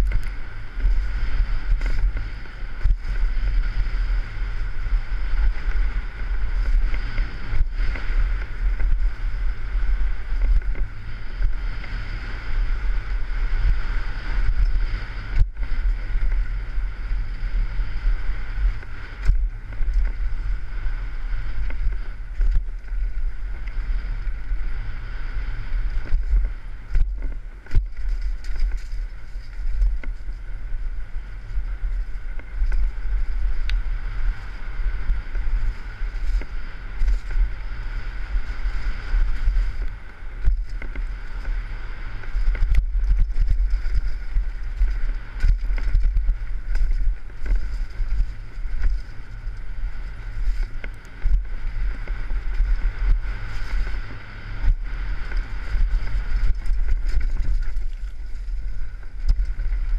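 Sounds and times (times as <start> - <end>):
bike clicks and rattles: 0.0 - 59.9
tyre noise on dirt trail: 0.0 - 59.9
wind buffeting camera: 0.0 - 59.9.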